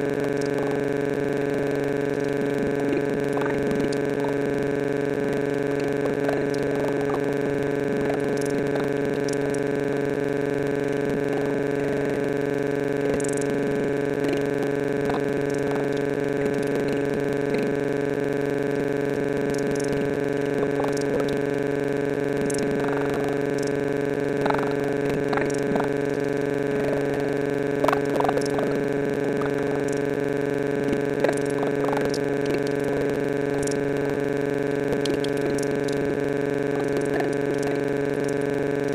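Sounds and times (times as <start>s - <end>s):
loud electronic drone: 0.0s - 38.9s.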